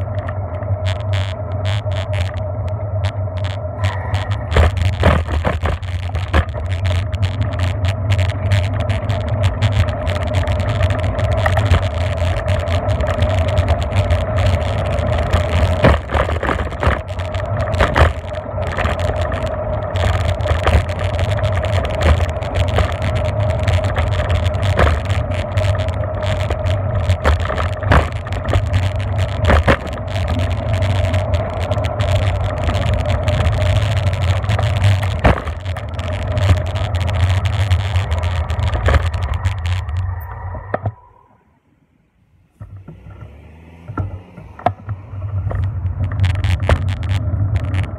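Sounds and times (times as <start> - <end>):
bike rattling over bumps: 0.0 - 40.9, 44.7 - 47.9
tyres rumbling on road: 0.0 - 41.1, 42.4 - 47.9.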